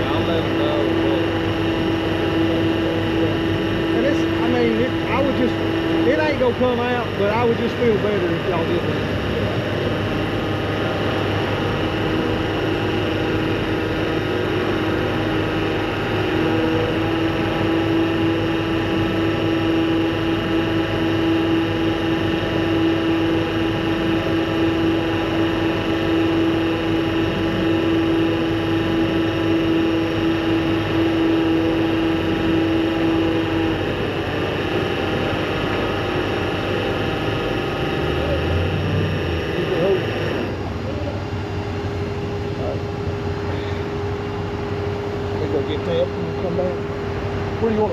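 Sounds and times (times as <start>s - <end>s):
strong steady whine: 0.0s - 47.9s
truck engine running: 0.0s - 47.9s.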